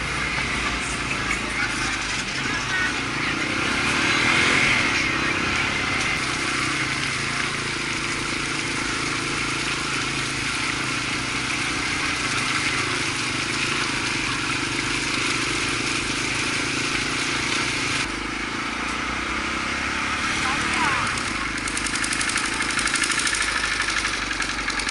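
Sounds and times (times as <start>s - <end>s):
motorcycle engine running: 0.0s - 24.9s
wind and road noise: 0.0s - 24.9s.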